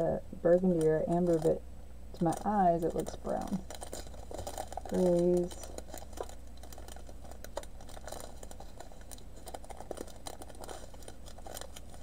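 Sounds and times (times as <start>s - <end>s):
steady low hum: 0.0s - 12.0s
plastic bags crinkling: 0.5s - 1.6s, 2.2s - 12.0s
small beads clicking in bags: 0.5s - 1.6s, 2.2s - 12.0s.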